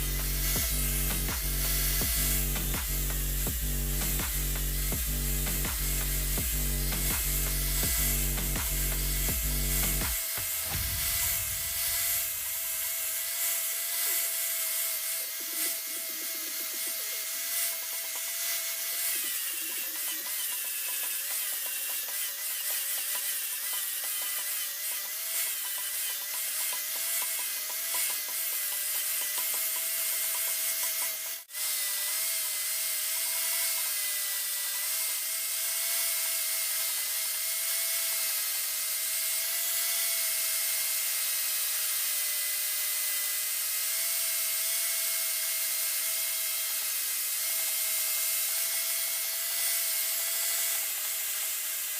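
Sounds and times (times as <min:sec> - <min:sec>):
grinder grinding steel: 0:00.0 - 0:51.9.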